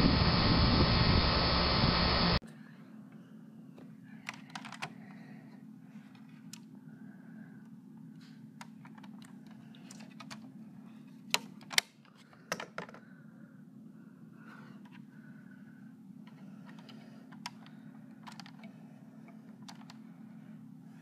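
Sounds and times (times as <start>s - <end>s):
steady low hum: 0.0s - 11.6s, 12.2s - 21.0s.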